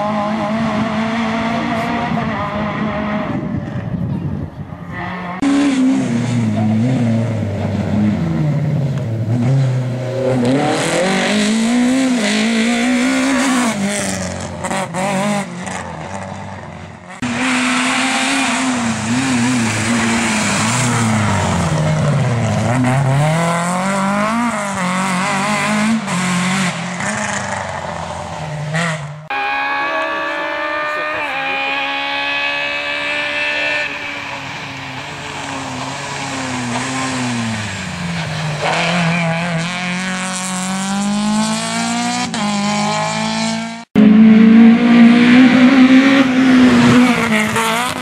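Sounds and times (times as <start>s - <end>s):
car engine revving hard: 0.0s - 3.6s, 4.9s - 48.0s.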